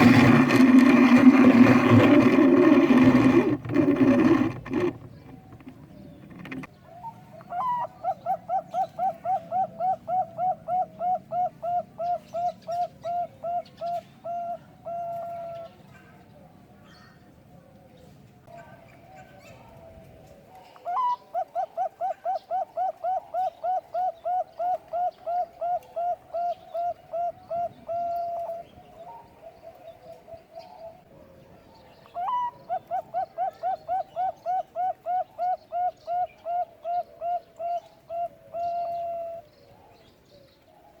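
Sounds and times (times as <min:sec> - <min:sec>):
dove cooing: 0:00.0 - 0:15.8, 0:19.2 - 0:40.5.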